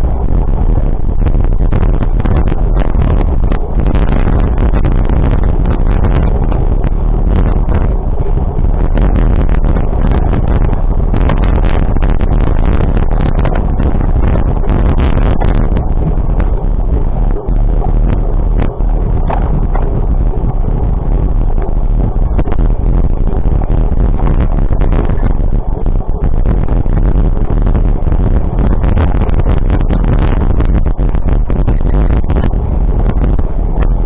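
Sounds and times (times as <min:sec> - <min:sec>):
loud steady rumbling: 0:00.0 - 0:34.0
wind buffeting microphone: 0:00.0 - 0:34.0.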